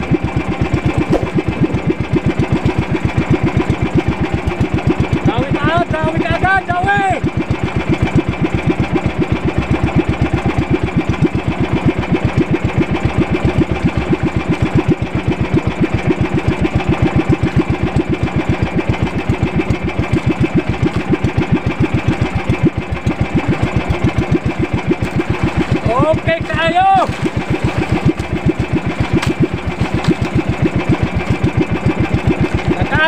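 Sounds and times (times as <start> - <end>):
boat engine chugging: 0.0 - 33.0.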